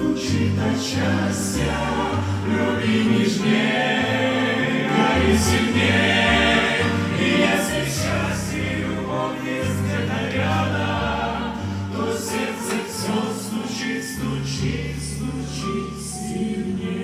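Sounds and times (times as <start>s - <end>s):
choir-like singing: 0.0s - 17.0s
sustained bass notes: 0.0s - 17.0s.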